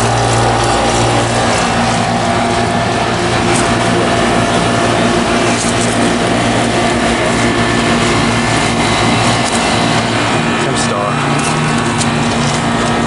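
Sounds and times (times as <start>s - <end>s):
compressor low hum: 0.0s - 13.0s
condenser fan rushing: 0.0s - 13.0s.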